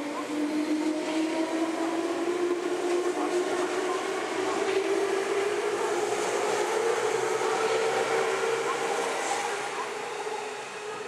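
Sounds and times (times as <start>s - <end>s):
wheels rumbling on rails: 0.0s - 11.0s.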